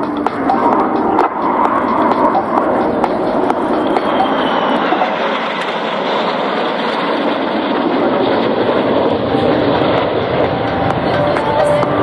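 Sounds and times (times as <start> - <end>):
faint whine falling in pitch: 0.0 - 12.0
jet roar: 0.0 - 12.0.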